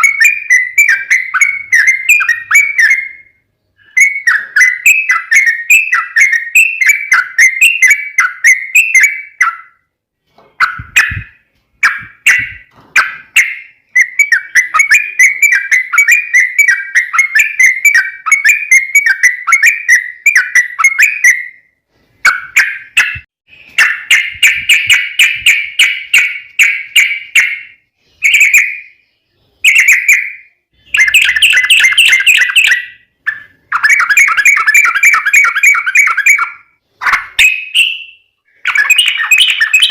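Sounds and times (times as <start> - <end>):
bird chattering song: 0.0 - 9.9, 10.5 - 39.9.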